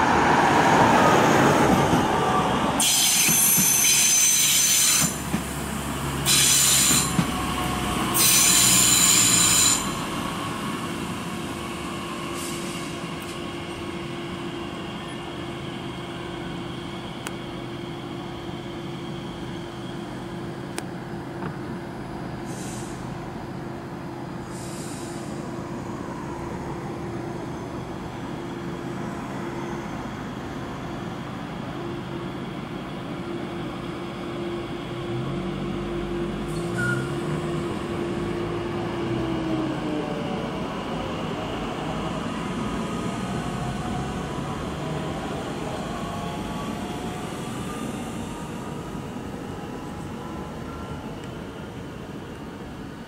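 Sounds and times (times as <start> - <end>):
electric train hum: 0.0 - 53.0.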